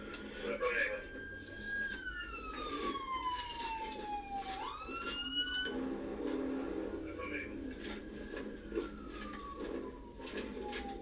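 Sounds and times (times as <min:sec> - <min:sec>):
police siren wailing: 0:00.1 - 0:11.0.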